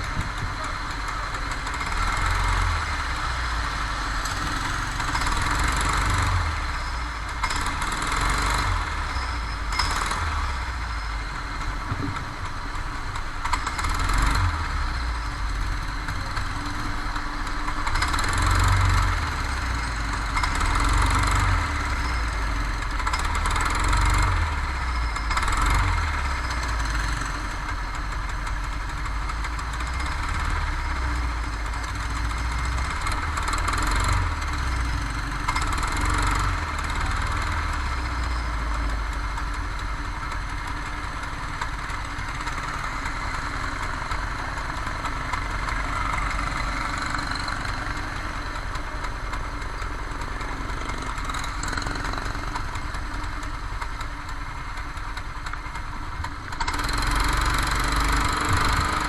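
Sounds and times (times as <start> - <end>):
kart engine running: 0.0 - 59.0.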